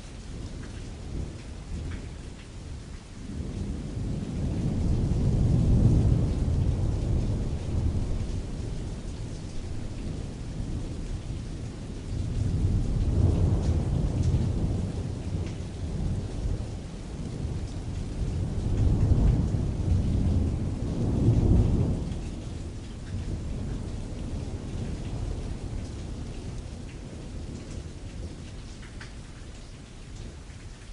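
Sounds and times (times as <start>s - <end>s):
rain on tent canvas: 0.0s - 30.9s
distant rolling thunder: 0.3s - 30.9s.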